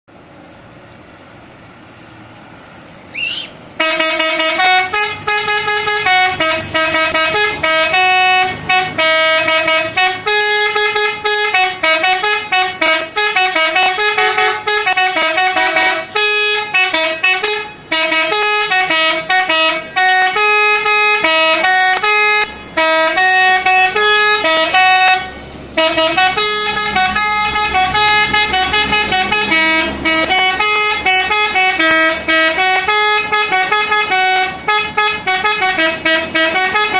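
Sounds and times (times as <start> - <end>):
multi-tone bus horn melody: 3.1 - 36.9.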